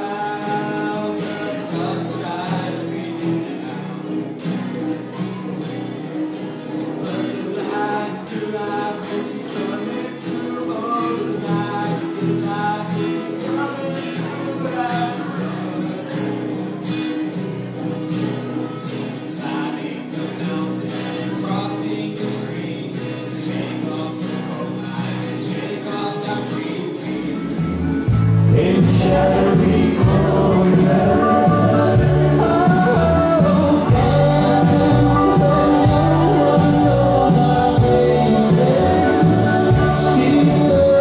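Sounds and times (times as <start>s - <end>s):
person singing: 0.0s - 4.0s, 6.9s - 16.2s, 19.2s - 41.0s
guitar accompaniment: 0.0s - 41.0s.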